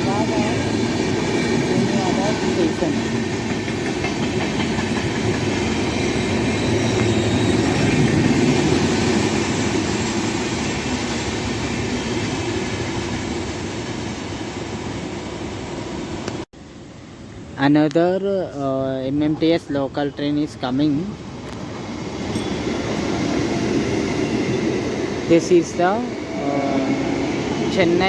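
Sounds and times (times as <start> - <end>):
train rumbling past on rails: 0.0 - 17.6, 18.4 - 28.0.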